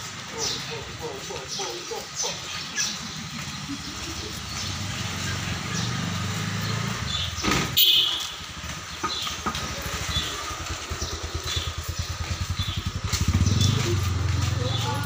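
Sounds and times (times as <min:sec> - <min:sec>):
motorcycle engine passing: 0:00.1 - 0:15.0.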